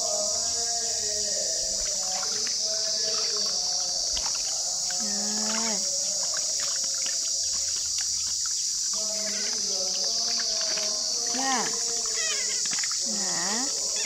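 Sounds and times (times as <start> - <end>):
insects chirring: 0.0 - 14.0
hands splashing water in basin: 1.7 - 14.0.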